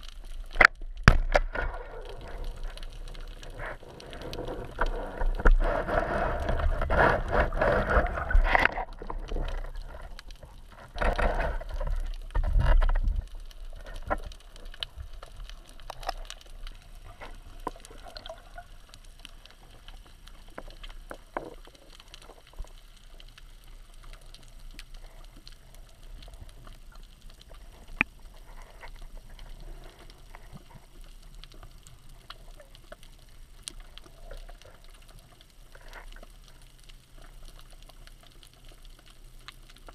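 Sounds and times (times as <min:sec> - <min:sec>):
underwater water rushing: 0:00.0 - 0:37.4
fine underwater crackling: 0:00.0 - 0:39.9.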